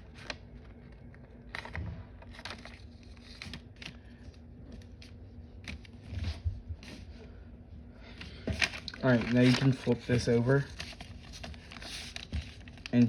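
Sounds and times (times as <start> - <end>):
faint steady hum: 0.0 - 13.0
paper crinkling and tapping: 0.1 - 7.1, 8.2 - 13.0.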